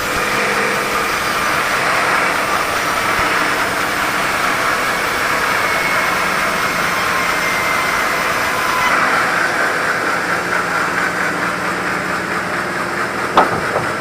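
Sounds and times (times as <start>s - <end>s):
sawmill saw cutting log: 0.0s - 14.0s.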